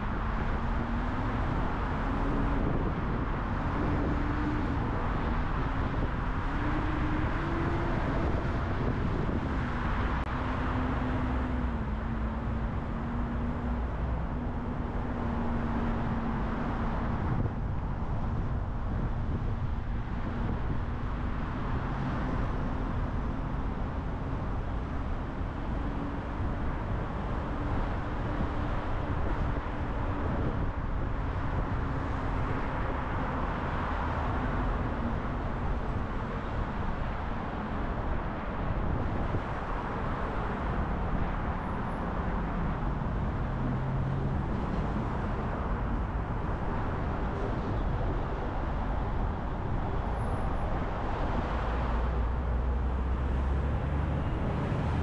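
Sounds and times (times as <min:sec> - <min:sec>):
tyre and road noise: 0:00.0 - 0:55.0.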